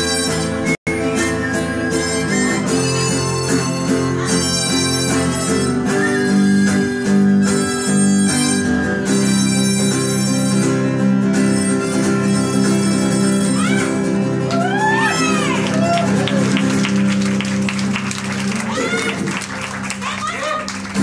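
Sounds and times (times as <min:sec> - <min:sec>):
acoustic guitars strumming: 0:00.0 - 0:21.0
harmonica lead: 0:00.0 - 0:21.0.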